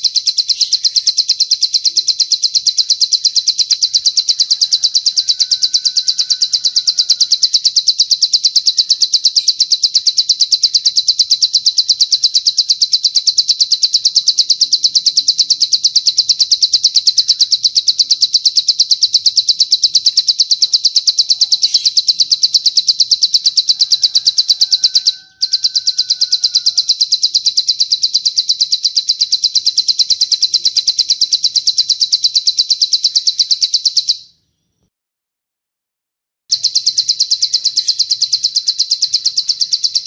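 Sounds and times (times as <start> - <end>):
rapid high bird trill: 0.0 - 34.8, 36.5 - 40.0.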